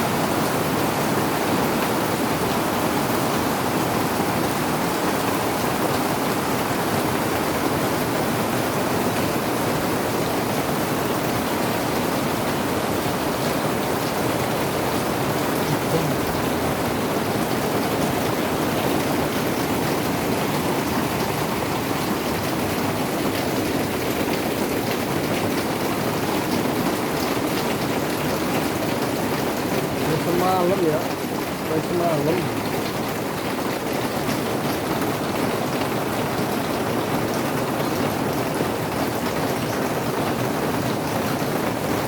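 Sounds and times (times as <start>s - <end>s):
heavy rain pattering: 0.0s - 42.0s.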